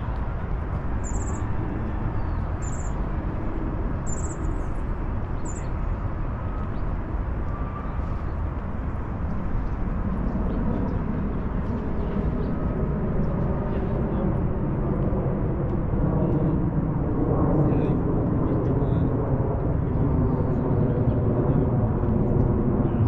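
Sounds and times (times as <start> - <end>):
low street rumble: 0.0 - 23.0.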